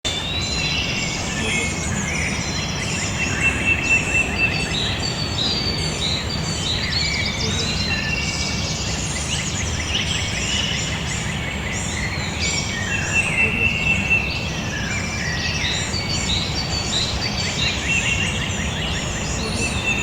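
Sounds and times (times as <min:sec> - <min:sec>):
songbirds singing: 0:00.1 - 0:20.0.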